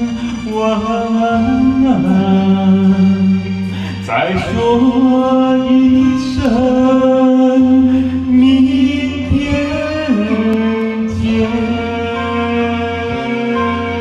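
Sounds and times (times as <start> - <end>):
keyboard accompaniment: 0.0 - 14.0
man singing slow song: 0.0 - 14.0.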